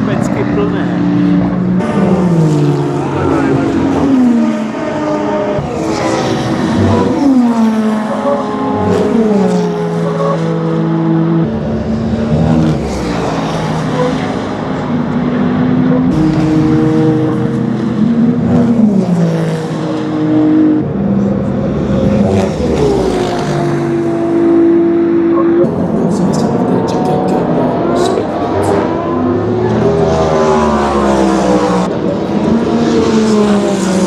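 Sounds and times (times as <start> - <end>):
racing car engines passing: 0.0 - 34.0.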